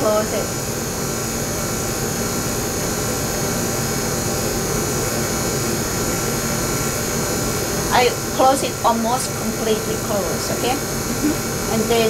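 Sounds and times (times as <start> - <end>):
faint high whine: 0.0 - 12.0
vacuum pump whirring: 0.0 - 12.0.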